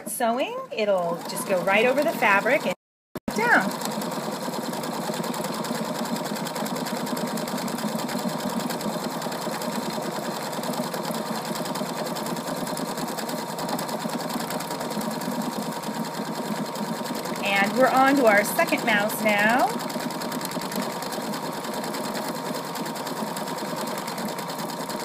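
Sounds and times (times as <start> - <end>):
sewing machine running: 0.8 - 25.0.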